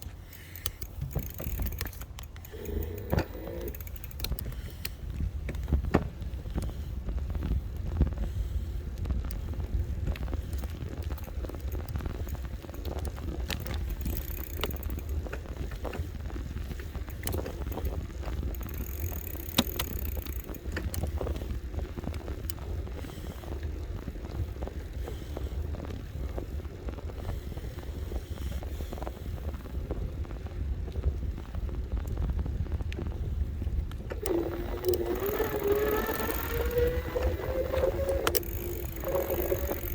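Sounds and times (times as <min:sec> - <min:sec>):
bike clicks and rattles: 0:00.0 - 0:39.9
wind rumbling on microphone: 0:00.0 - 0:39.9
electric bike running: 0:00.4 - 0:39.9.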